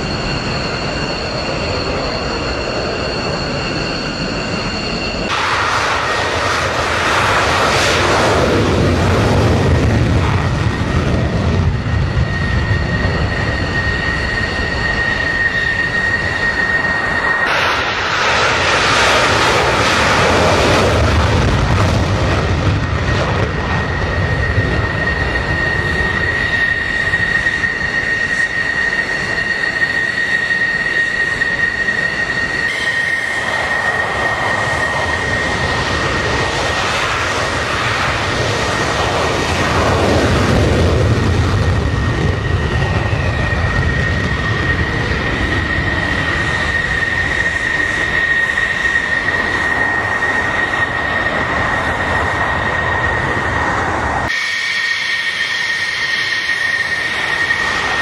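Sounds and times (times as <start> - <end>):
jet engines roaring in afterburner: 0.0 - 58.0.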